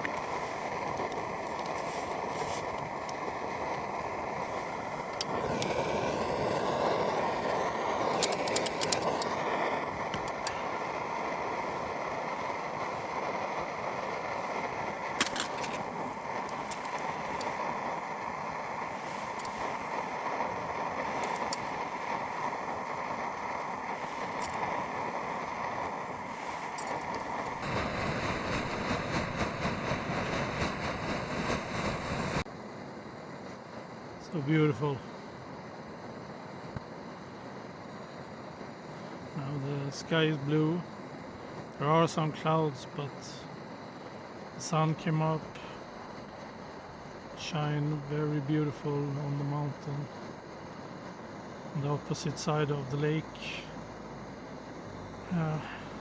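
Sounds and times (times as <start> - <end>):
camping stove burner running: 0.0 - 56.0.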